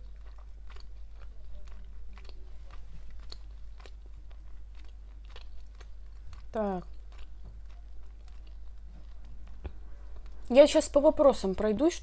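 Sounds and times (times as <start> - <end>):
person chewing food: 0.0 - 10.5
wet mouth clicks and crunches: 0.0 - 10.5.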